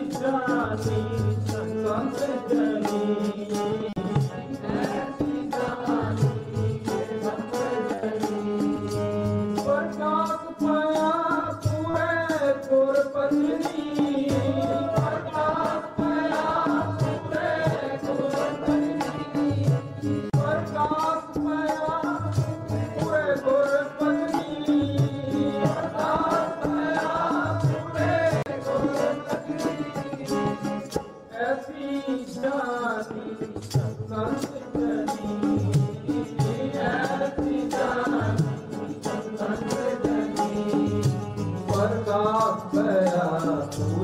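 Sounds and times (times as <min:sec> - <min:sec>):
tabla beat: 0:00.0 - 0:31.5, 0:32.9 - 0:44.0
harmonium: 0:00.0 - 0:44.0
man singing hymns into microphone: 0:00.0 - 0:44.0.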